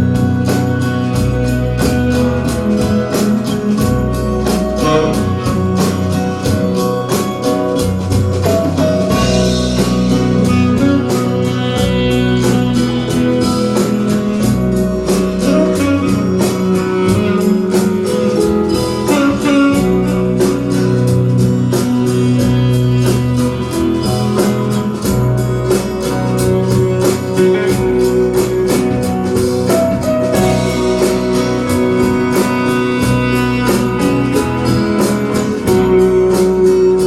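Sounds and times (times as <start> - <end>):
song with guitar and beat: 0.0 - 37.0.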